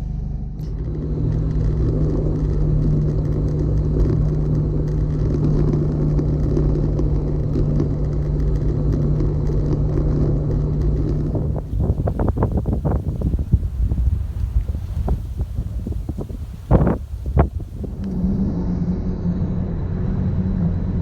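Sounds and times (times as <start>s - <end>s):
tyres rumbling on unpaved road: 0.0s - 18.4s
vehicle engine drone: 0.0s - 21.0s.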